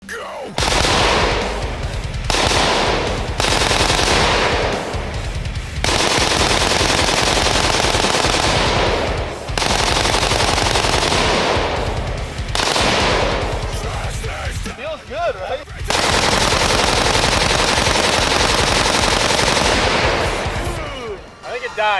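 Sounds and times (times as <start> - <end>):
rapid rifle shots: 0.6 - 21.9.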